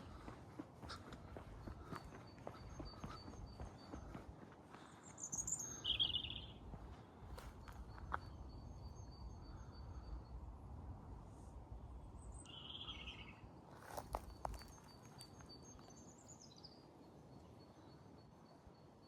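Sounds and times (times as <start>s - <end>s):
small birds chirping: 0.0s - 10.4s, 12.2s - 18.8s.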